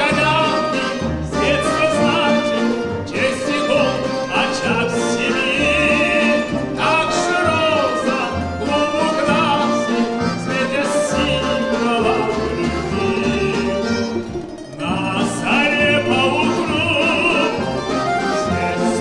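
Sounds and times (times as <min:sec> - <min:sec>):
man singing with vibrato: 0:00.0 - 0:19.0
stringed instruments ensemble: 0:00.0 - 0:19.0.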